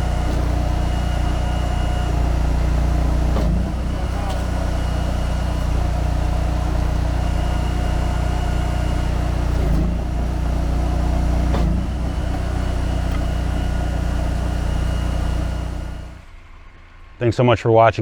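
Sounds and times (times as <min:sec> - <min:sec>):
engine running steadily: 0:00.0 - 0:17.2.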